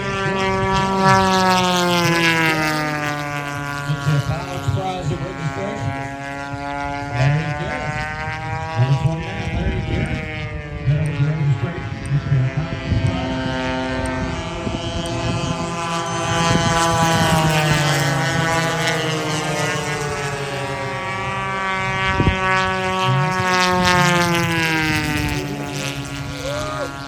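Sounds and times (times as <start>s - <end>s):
model airplane engines droning: 0.0s - 27.0s.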